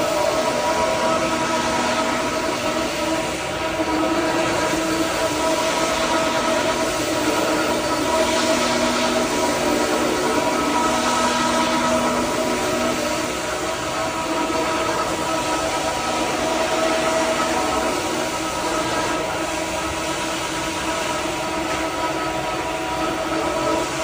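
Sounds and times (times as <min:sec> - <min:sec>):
floor scrubber motor whine: 0:00.0 - 0:24.0.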